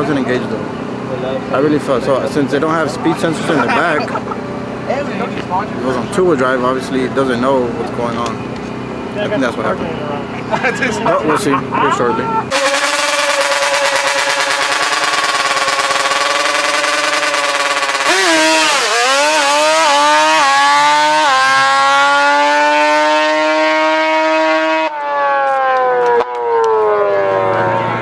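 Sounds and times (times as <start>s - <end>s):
race truck engine revving: 0.0s - 28.0s.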